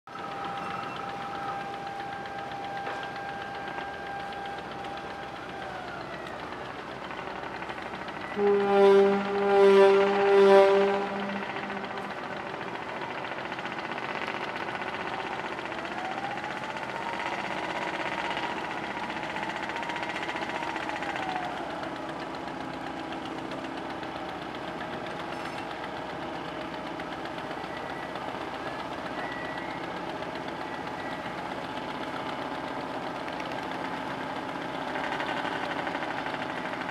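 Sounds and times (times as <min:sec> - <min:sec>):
ferry engine running: 0:00.1 - 0:36.9.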